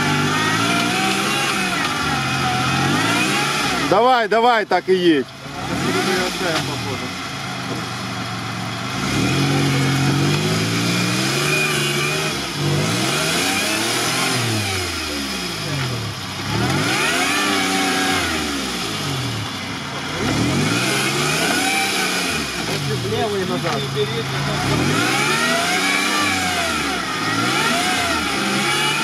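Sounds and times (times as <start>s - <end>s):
wheels grinding on wood: 0.0s - 4.2s, 9.0s - 29.0s
engine revving hard: 0.0s - 7.8s, 8.7s - 29.0s.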